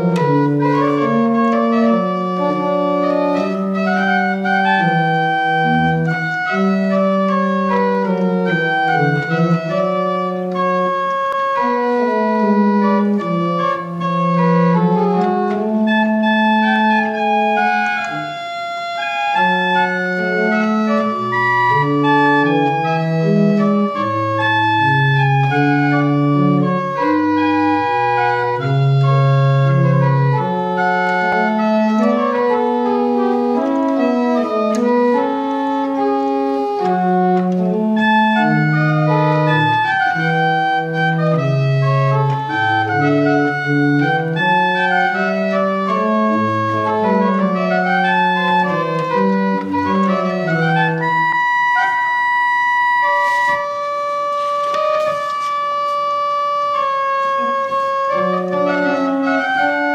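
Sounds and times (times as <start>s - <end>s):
pipe organ playing: 0.0s - 59.9s.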